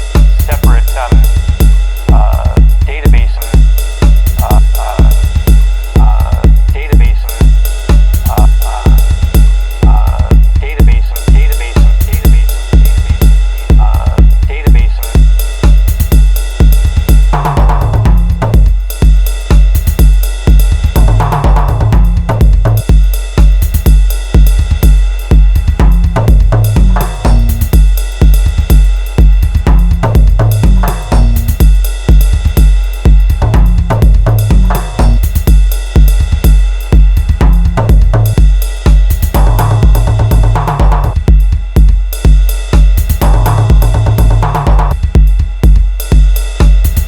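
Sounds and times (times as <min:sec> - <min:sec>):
low pitched synth: 0:00.0 - 0:18.9, 0:20.9 - 0:23.1, 0:24.9 - 0:35.7, 0:36.4 - 0:38.6, 0:39.3 - 0:41.8, 0:43.2 - 0:45.6
deep booming kick drum: 0:00.0 - 0:47.0
hi-hats snare and cymbals: 0:00.0 - 0:47.0.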